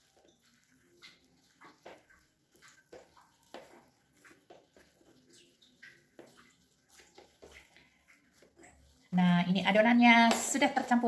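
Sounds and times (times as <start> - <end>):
wet dough squishing: 0.0 - 11.0.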